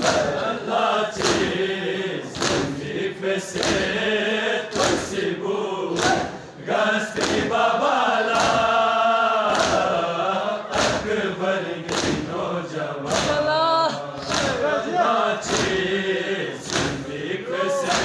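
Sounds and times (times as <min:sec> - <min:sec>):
crowd chest-beating slaps: 0:00.0 - 0:18.0
men chanting in unison: 0:00.0 - 0:18.0.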